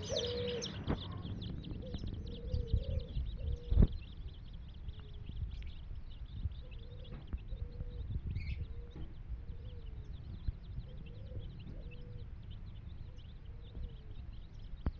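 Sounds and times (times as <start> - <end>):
baby chicks peeping: 0.0 - 14.9
low rumble: 0.0 - 14.9.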